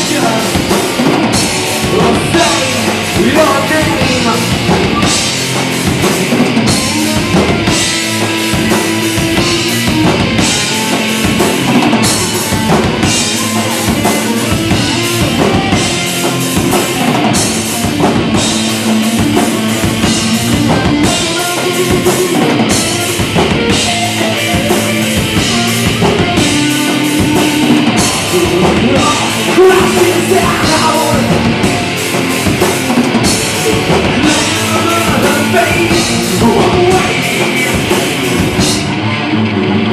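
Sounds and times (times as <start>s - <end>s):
drum kit with crashing cymbals: 0.0s - 39.0s
bass guitar: 0.0s - 39.9s
distorted guitars: 0.0s - 39.9s.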